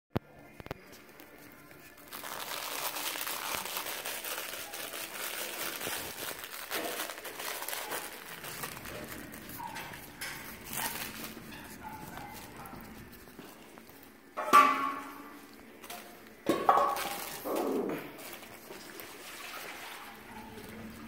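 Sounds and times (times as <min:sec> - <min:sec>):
crinkle toy crackling: 0:00.7 - 0:19.1.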